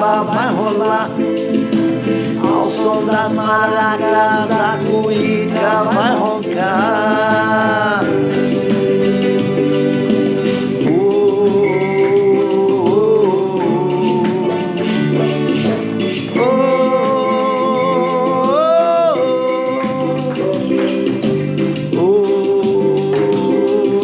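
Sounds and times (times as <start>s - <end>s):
samba band playing: 0.0s - 24.0s.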